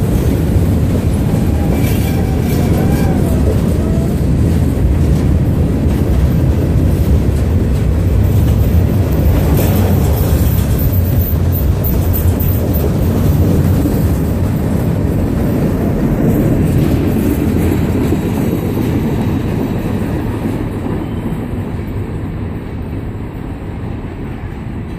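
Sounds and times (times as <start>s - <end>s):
train rail rumble: 0.0s - 24.9s.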